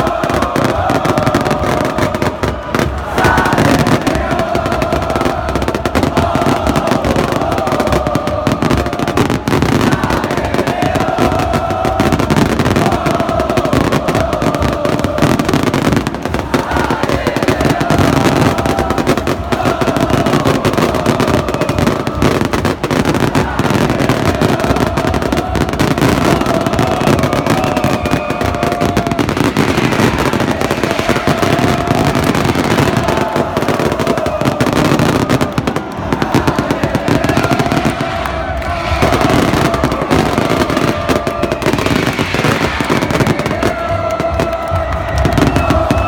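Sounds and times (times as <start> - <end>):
crowd singing a chant: 0.0 - 46.0
firecrackers popping: 0.0 - 46.0.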